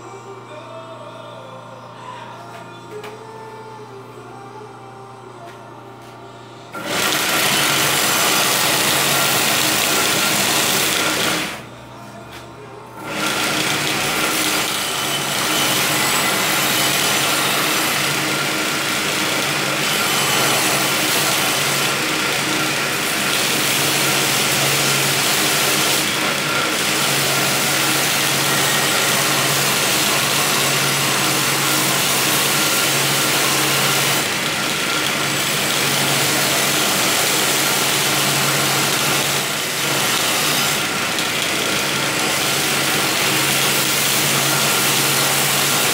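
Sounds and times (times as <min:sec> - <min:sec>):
blade grinding on belt sander: 0:06.8 - 0:11.6, 0:13.0 - 0:45.9.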